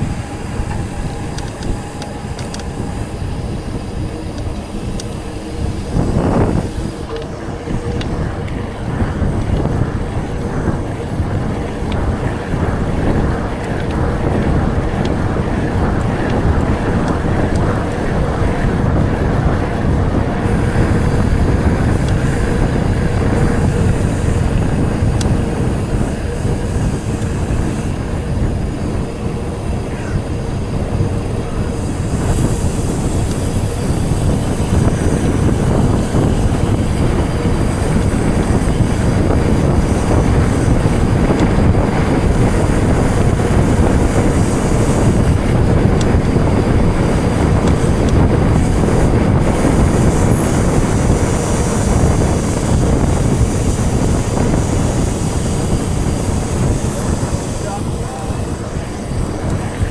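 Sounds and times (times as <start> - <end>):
bike tyres rumbling: 0.0 - 59.9
wind on microphone: 0.0 - 59.9.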